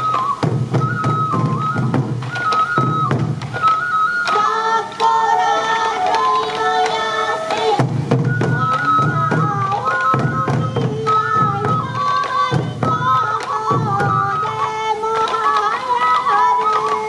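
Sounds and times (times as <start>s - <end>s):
bamboo flute melody: 0.0s - 17.0s
taiko drums beating: 0.0s - 17.0s.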